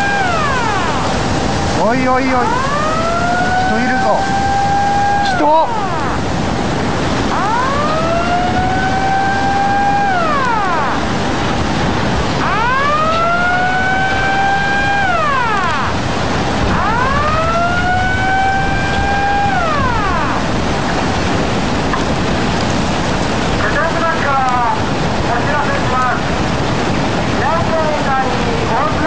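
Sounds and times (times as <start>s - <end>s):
warning siren wailing: 0.0s - 26.4s
floodwater rushing: 0.0s - 29.0s.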